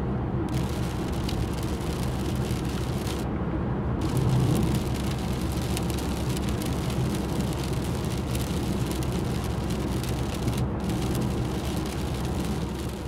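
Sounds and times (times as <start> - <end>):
low road rumble: 0.0 - 13.0
tyre spray and rain hiss: 0.5 - 3.2, 4.0 - 13.0.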